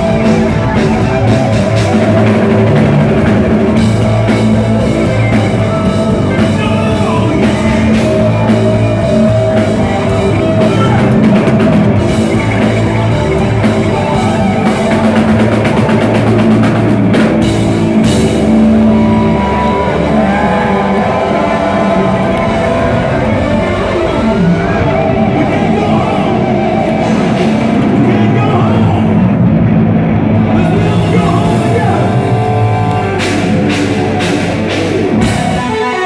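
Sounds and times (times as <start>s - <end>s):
bass guitar: 0.0s - 36.0s
distorted electric guitar: 0.0s - 36.0s
drum kit: 0.0s - 36.0s
keyboards: 0.0s - 36.0s.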